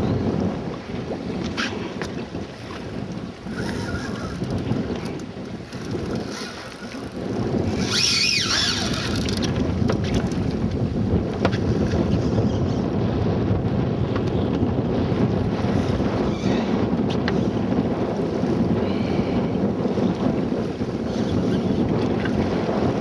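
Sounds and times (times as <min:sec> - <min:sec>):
boat engine rumble: 0:00.0 - 0:23.0
wind buffeting microphone: 0:00.0 - 0:23.0.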